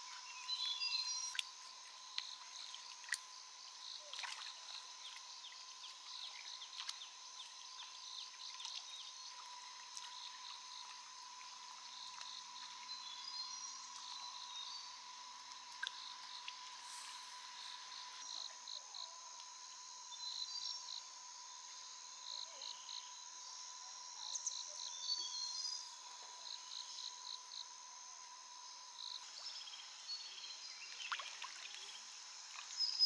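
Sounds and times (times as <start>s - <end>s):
insects and frogs chorus: 0.0s - 33.0s.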